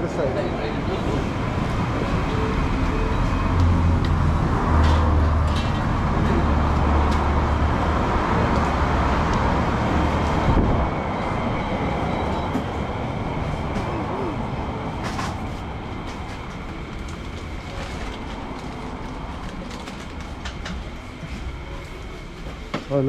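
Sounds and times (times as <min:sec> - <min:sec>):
vehicle engine rumble: 0:00.0 - 0:22.7
street traffic noise: 0:00.0 - 0:23.0.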